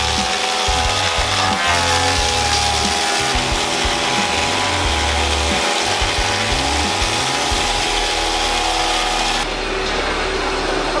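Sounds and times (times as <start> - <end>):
thickness planer planing wood: 0.0 - 11.0.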